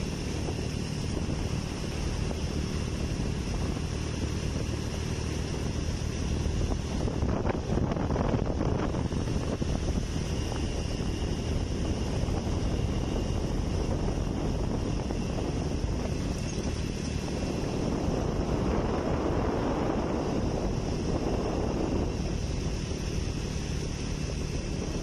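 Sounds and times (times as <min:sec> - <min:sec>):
motorcycle engine cruising: 0:00.0 - 0:25.0
wind rushing over microphone: 0:00.0 - 0:25.0.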